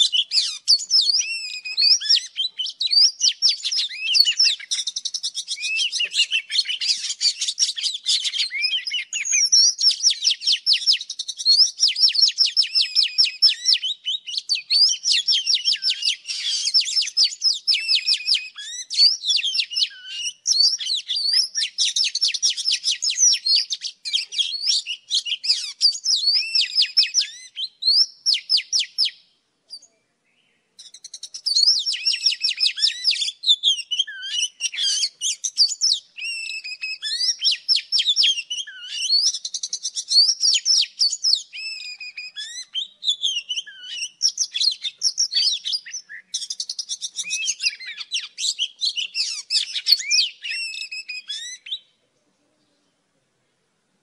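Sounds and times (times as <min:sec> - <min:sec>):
bird song chirps and whistles: 0:00.0 - 0:52.0.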